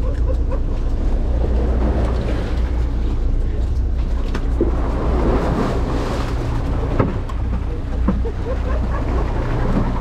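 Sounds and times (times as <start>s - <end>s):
boat engine running: 0.0s - 10.0s
water washing against hull: 0.0s - 10.0s.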